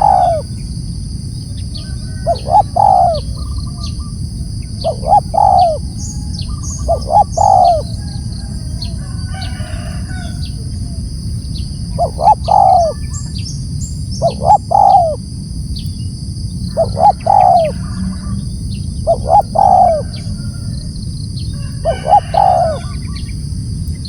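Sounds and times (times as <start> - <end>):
dove cooing: 0.0 - 0.6, 1.8 - 13.4, 14.2 - 15.3, 16.6 - 20.9, 21.5 - 23.3
small birds chirping: 0.0 - 24.0.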